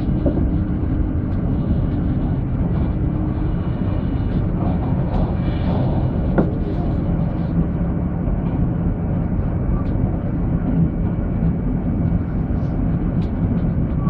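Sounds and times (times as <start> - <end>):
train engine drone: 0.0 - 14.0
train wheels rumbling on track: 0.0 - 14.0.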